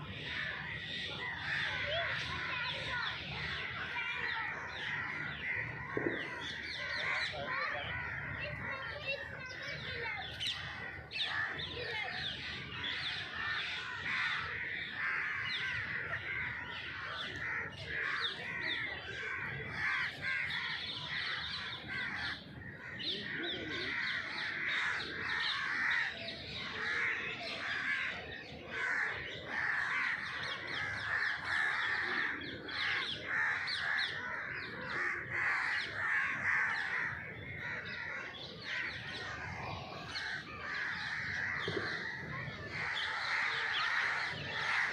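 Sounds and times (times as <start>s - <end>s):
flock of birds calling: 0.0s - 44.9s.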